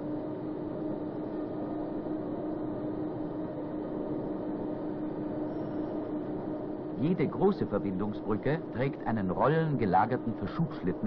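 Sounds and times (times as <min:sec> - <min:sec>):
overhead crane humming: 0:00.0 - 0:11.0.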